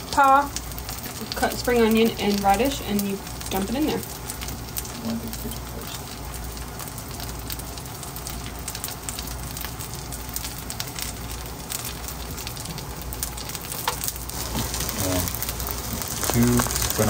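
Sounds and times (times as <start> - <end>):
pancake sizzling in oil: 0.0 - 17.0.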